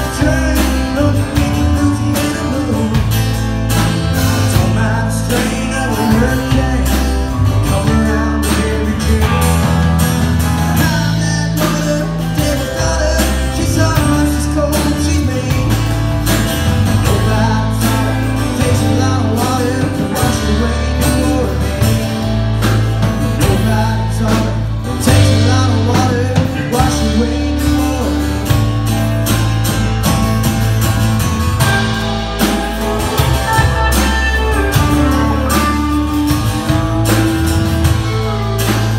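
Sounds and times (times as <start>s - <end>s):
bass line: 0.0s - 38.9s
drum kit beat: 0.0s - 38.9s
electric guitars: 0.0s - 38.9s
strummed acoustic guitar: 0.0s - 38.9s.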